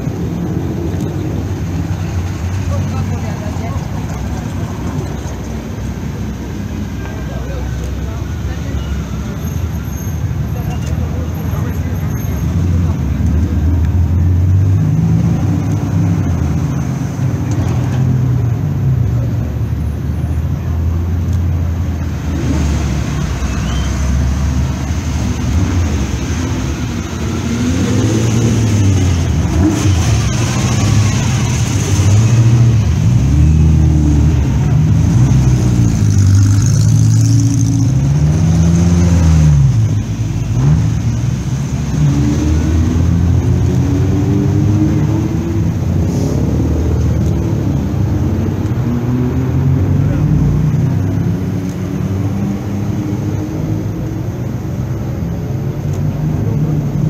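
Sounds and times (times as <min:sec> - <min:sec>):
sports car engines revving: 0:00.0 - 0:57.0.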